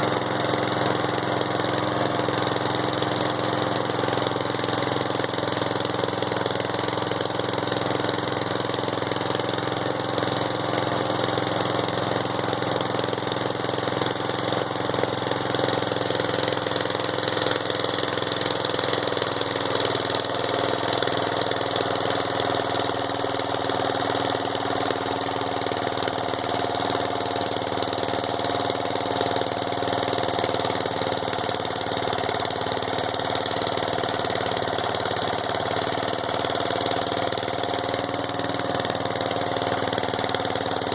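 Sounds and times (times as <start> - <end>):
riding lawn mower engine running: 0.0 - 40.9.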